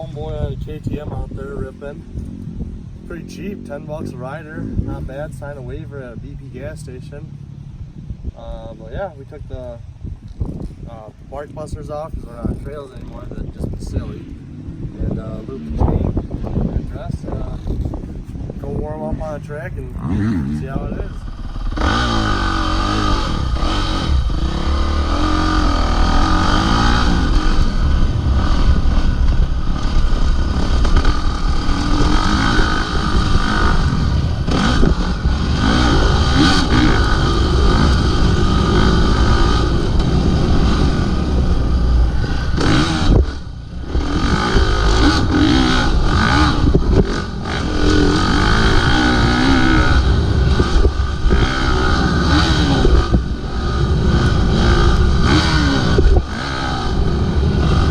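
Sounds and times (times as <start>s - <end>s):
dirt bike engine revving: 0.0s - 9.3s, 12.2s - 57.9s.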